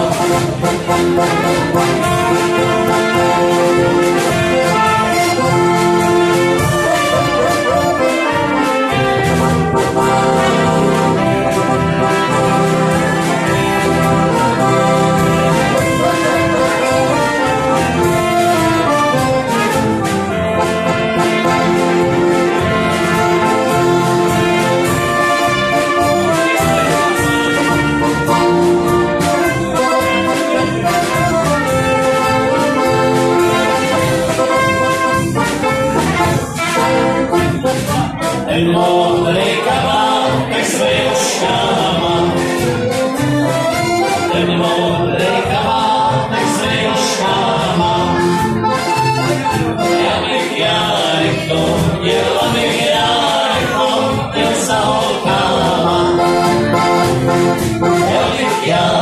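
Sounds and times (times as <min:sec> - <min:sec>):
saxophone: 0:00.0 - 0:40.6, 0:45.0 - 0:50.4, 0:55.4 - 0:59.0
accordion: 0:00.0 - 0:59.0
brass bass horn: 0:00.0 - 0:59.0
drums: 0:00.0 - 0:59.0
trumpet: 0:00.0 - 0:59.0.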